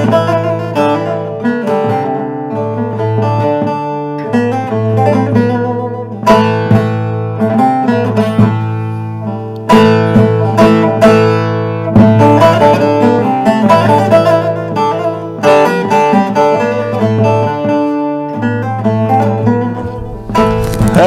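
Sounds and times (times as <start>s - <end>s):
plucked acoustic guitar: 0.0s - 21.0s.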